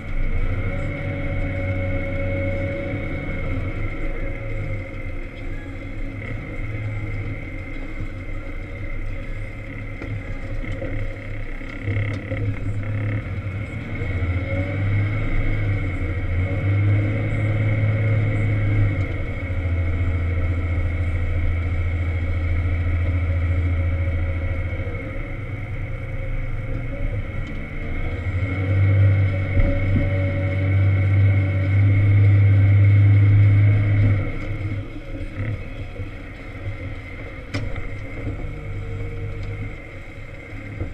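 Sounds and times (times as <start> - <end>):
diesel engine of wheel loader: 0.0 - 40.9
high whine: 0.0 - 40.9.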